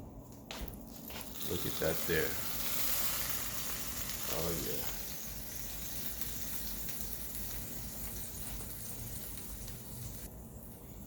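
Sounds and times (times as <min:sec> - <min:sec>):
food sizzling in a pan: 0:00.9 - 0:10.3.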